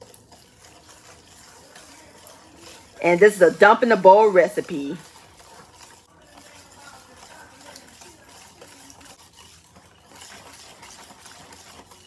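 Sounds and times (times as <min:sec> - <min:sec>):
whisk beating batter in glass bowl: 0:00.0 - 0:12.0.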